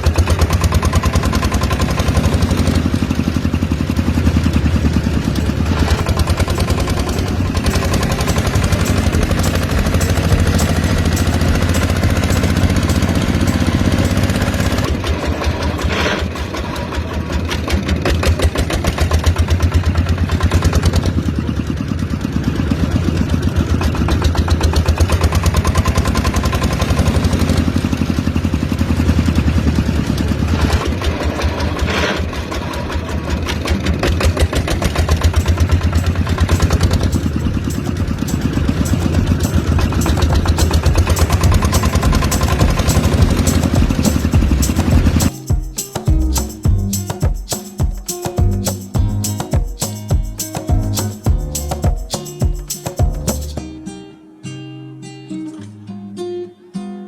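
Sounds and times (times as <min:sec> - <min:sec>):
miniature diesel engine running: 0:00.0 - 0:53.6.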